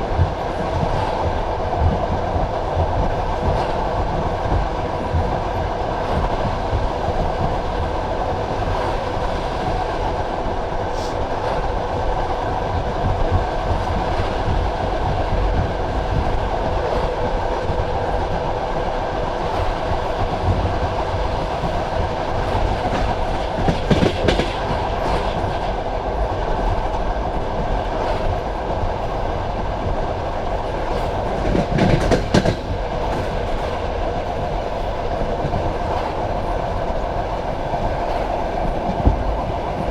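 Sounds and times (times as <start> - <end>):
clickety-clack wheel clatter: 0.0 - 10.2, 10.9 - 39.9
train wheels rumbling on rail: 0.0 - 39.9.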